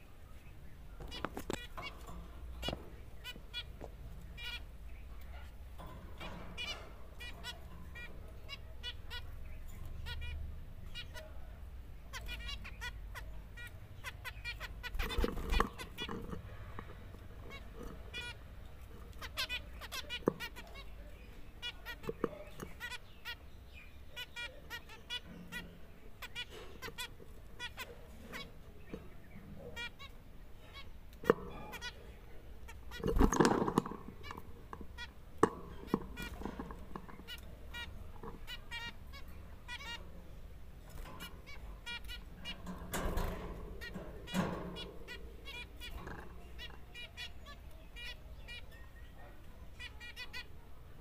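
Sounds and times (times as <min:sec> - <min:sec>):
finches beeping calls: 0:00.4 - 0:11.4, 0:12.0 - 0:50.6.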